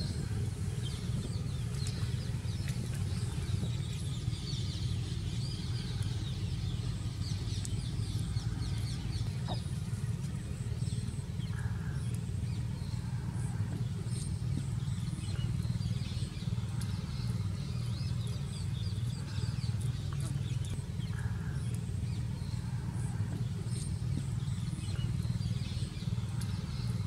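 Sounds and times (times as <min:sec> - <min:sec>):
birds chirping: 0:00.0 - 0:27.0
steady low hum: 0:00.0 - 0:27.0.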